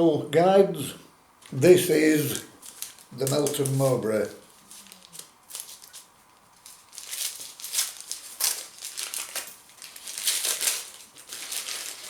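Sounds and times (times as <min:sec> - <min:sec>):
food packaging crinkling: 0:02.2 - 0:12.0.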